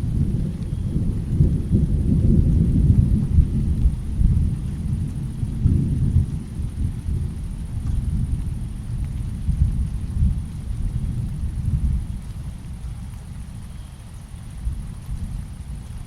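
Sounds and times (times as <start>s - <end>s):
thunder rumbling: 0.0s - 13.6s.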